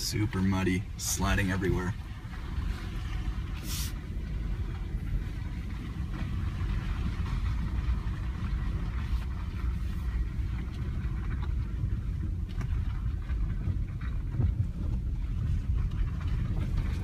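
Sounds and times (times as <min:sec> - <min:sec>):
car rumbling on dirt track: 0:00.0 - 0:17.0.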